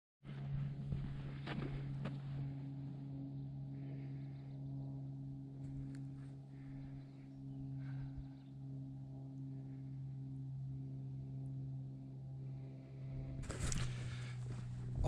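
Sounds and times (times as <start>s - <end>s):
low sustained ambient drone: 0.3s - 15.0s.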